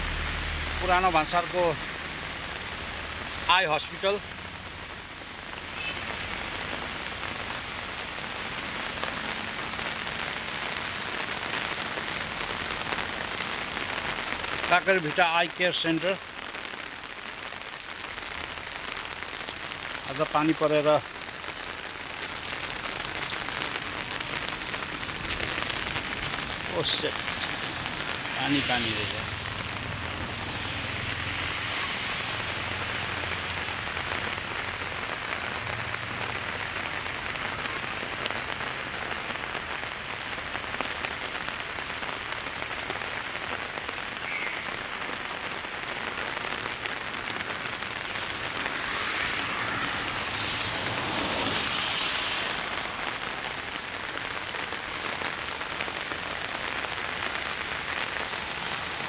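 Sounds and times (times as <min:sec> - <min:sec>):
rain pattering on umbrella: 0:00.0 - 0:59.0.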